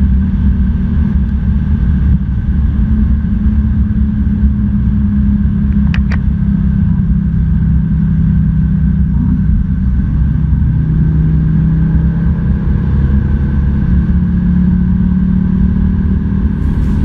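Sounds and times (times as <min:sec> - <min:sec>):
car engine pulling hard: 0:00.0 - 0:17.0.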